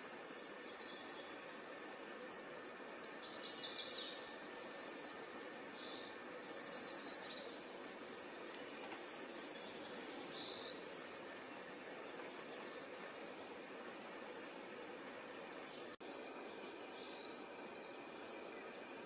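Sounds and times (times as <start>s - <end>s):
warbler singing: 0.0s - 13.2s, 15.0s - 19.0s
faint steady hiss: 0.0s - 19.0s.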